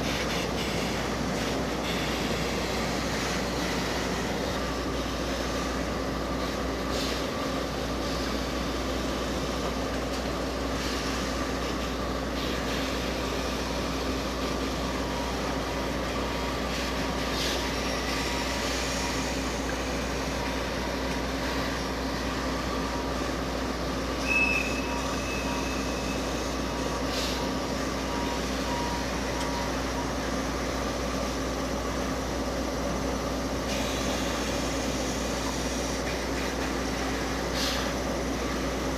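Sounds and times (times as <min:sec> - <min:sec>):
train mechanical hum: 0:00.0 - 0:38.9.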